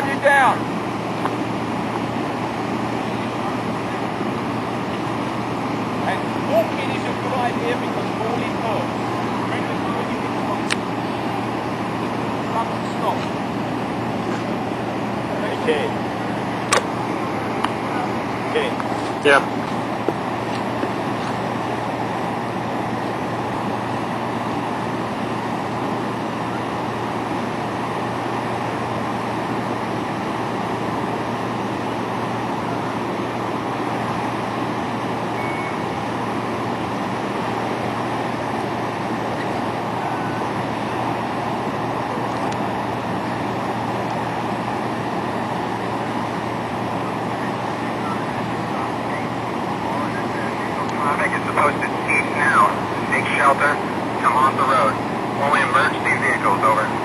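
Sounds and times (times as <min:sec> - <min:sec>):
low engine hum: 0:00.0 - 0:57.0
rushing noise: 0:00.0 - 0:57.0.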